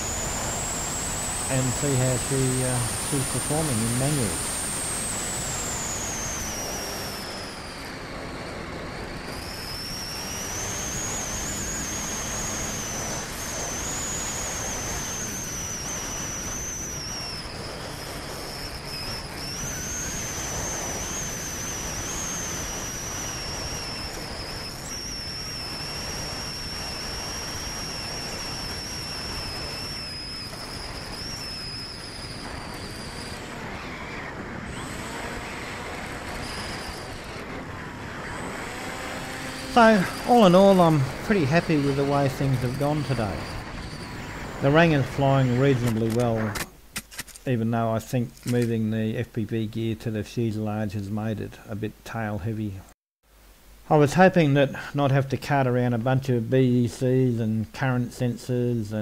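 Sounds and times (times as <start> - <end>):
electric motor and propeller whining: 0.0 - 47.4.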